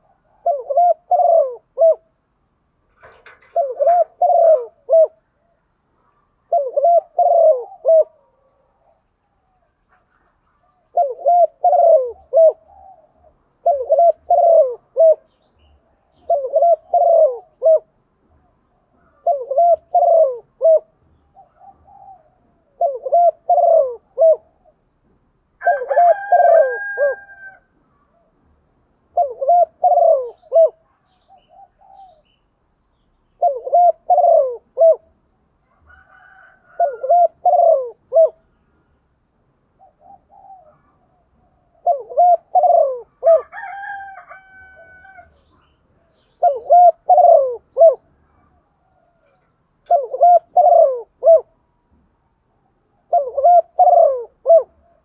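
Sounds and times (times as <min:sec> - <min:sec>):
dove cooing: 0:00.0 - 0:02.2, 0:03.0 - 0:24.9, 0:25.6 - 0:28.4, 0:29.1 - 0:32.5, 0:33.4 - 0:38.4, 0:39.7 - 0:51.7, 0:52.4 - 0:55.0.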